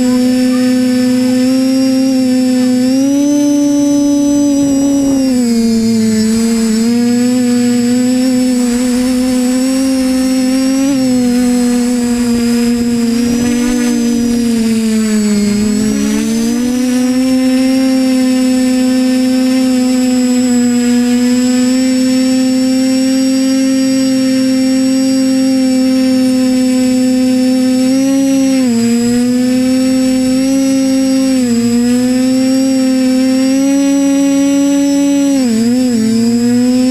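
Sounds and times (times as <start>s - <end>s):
drone motors and propellers humming: 0.0s - 36.9s.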